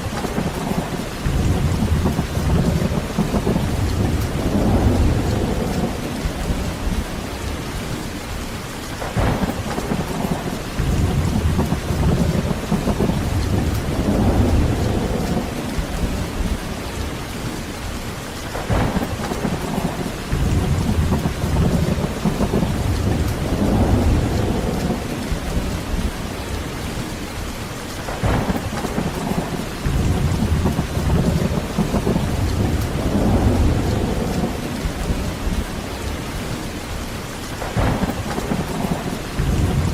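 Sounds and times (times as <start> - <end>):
thunder cracks: 0.0 - 7.0, 9.0 - 16.6, 18.5 - 26.1, 28.1 - 35.7, 37.6 - 39.9
heavy rain: 0.0 - 39.9
rolling thunder rumble: 0.0 - 39.9.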